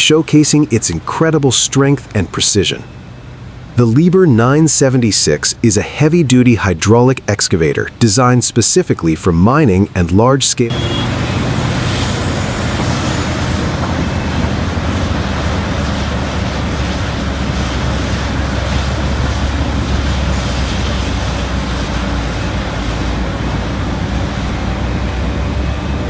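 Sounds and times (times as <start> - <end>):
excavator diesel engine drone: 0.0 - 8.8, 10.6 - 26.0.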